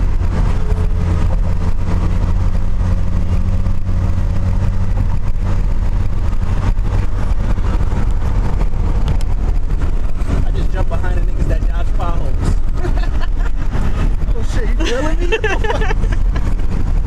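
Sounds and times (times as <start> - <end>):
car cabin engine and road drone: 0.0 - 17.0.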